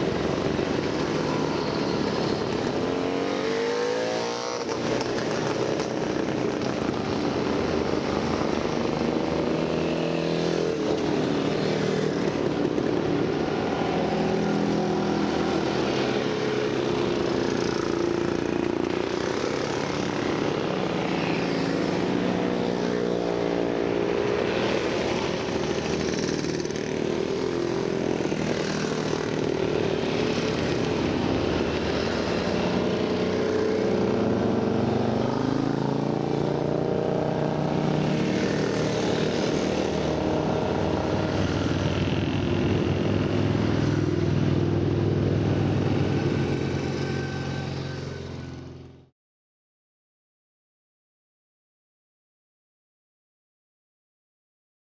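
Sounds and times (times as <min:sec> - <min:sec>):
motorcycles riding past: 0:00.0 - 0:49.1.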